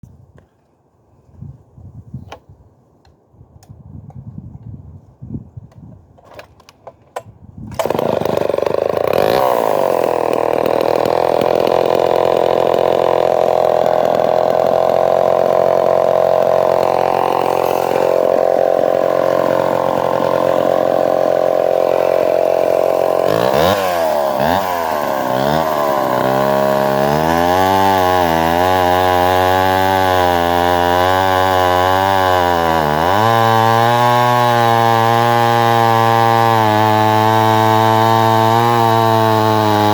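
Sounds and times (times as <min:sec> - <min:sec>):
chainsaw running and idling: 0:07.7 - 0:39.9.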